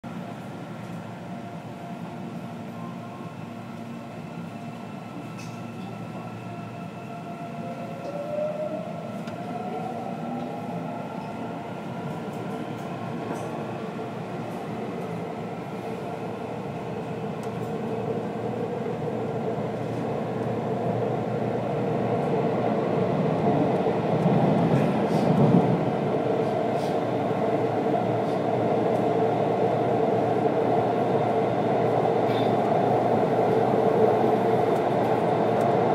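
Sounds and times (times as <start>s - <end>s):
train wheels rumbling on rails: 0.1s - 35.9s
train whine: 0.1s - 35.9s.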